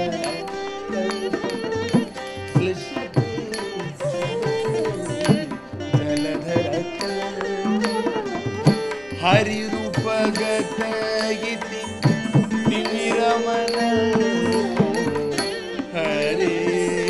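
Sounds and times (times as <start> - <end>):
drum rhythmic strokes: 0.0 - 17.0
ornamented sliding melody: 0.0 - 17.0.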